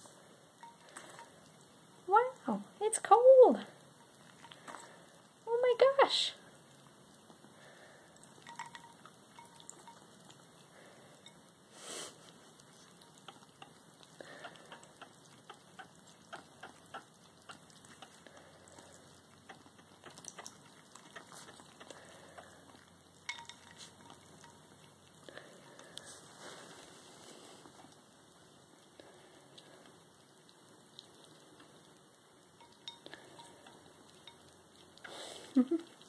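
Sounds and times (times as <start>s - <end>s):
light water splashing: 0.2s - 36.0s.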